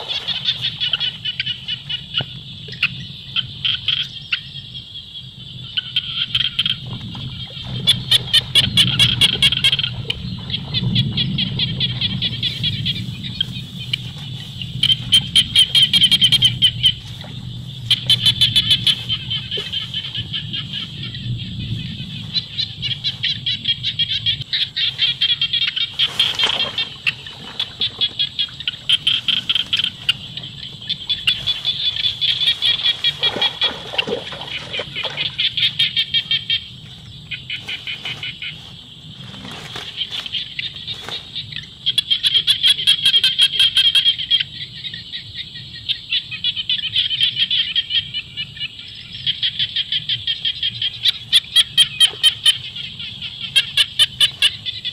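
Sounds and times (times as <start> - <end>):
frogs calling: 0.0 - 54.9.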